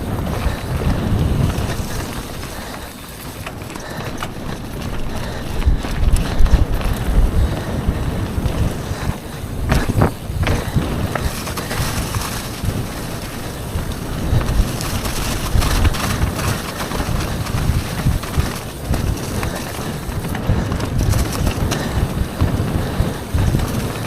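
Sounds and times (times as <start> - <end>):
rough rolling rumble: 0.0 - 24.0
wind buffeting microphone: 0.0 - 24.0.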